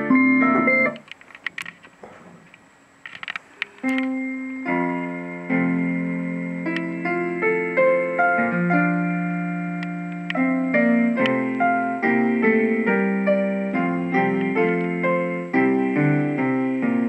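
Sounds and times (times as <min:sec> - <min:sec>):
piano melody with chords: 0:00.0 - 0:01.0, 0:03.8 - 0:17.0.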